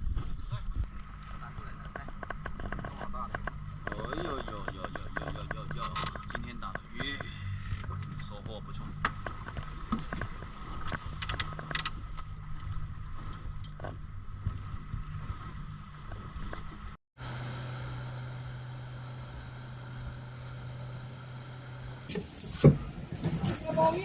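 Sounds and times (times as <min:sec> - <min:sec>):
boat engine running: 0:00.4 - 0:24.0.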